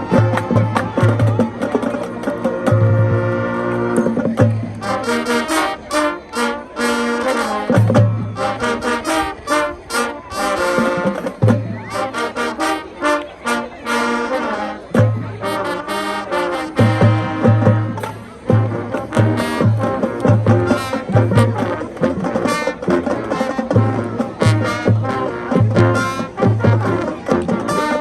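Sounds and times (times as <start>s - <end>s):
brass chords: 0.0s - 28.0s
marching band playing: 0.0s - 28.0s.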